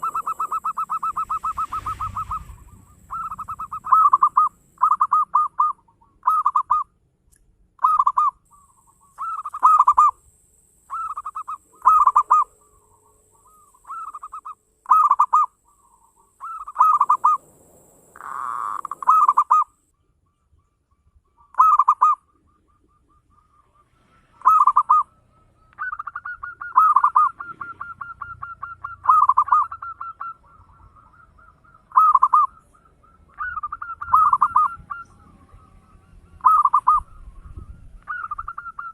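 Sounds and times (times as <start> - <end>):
doves cooing: 0.0 - 6.9, 7.8 - 19.8, 21.4 - 38.9.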